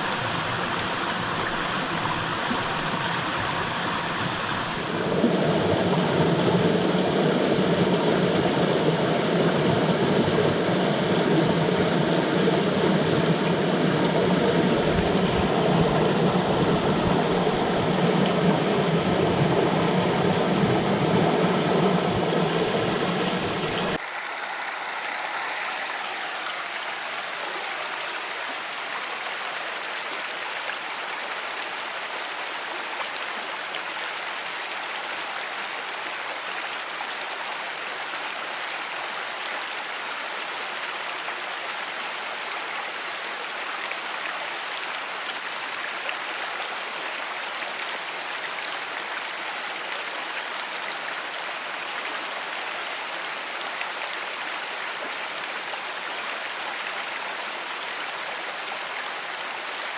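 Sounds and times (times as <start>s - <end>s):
rushing creek water: 0.0s - 59.9s.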